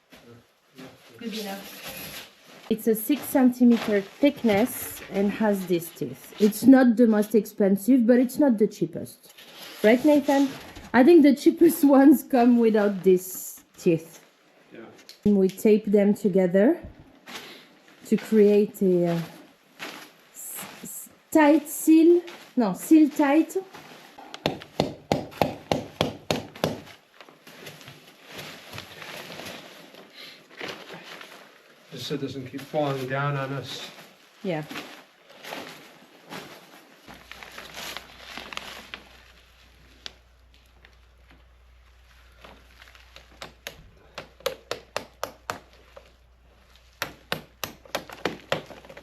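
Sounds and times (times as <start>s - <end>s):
soft rustling and handling: 0.0s - 7.2s, 9.3s - 15.8s, 17.1s - 24.8s, 26.8s - 49.0s.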